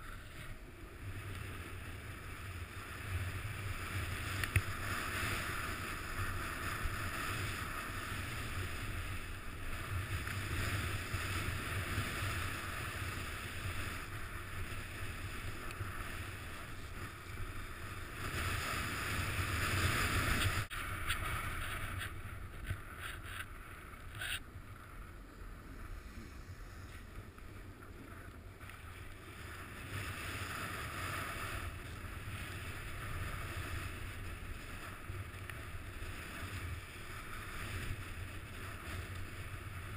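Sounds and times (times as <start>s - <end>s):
snowboard sliding over snow: 0.0s - 39.9s
wind on microphone: 0.0s - 39.9s.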